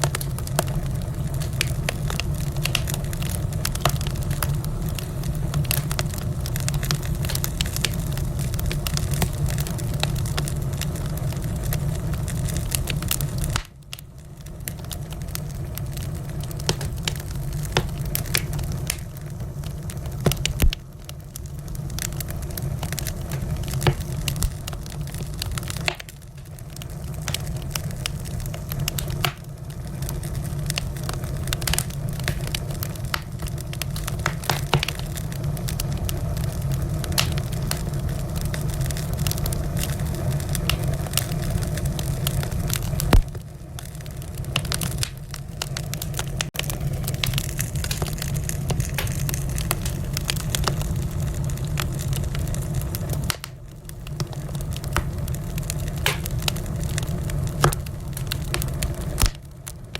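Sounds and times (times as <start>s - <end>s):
low rush of flame: 0.0s - 59.9s
wood fire crackling: 0.0s - 59.9s.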